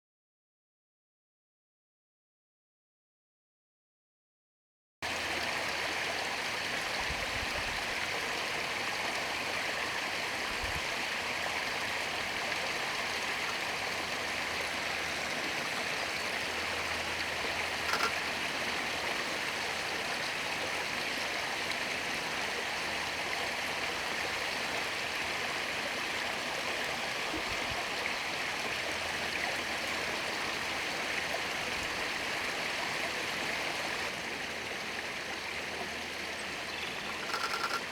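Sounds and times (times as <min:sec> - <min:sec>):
stream rushing: 0:05.0 - 0:37.9.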